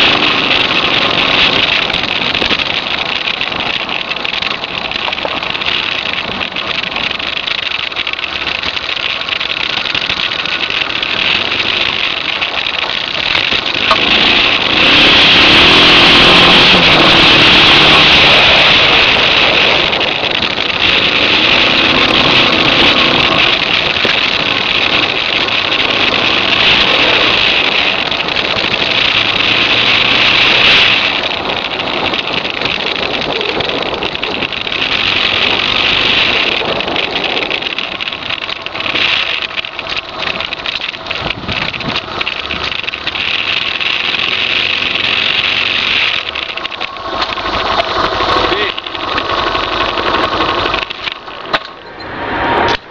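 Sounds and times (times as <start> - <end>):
motorcycle engine: 0.0 - 52.9
wind and road noise: 0.0 - 52.9.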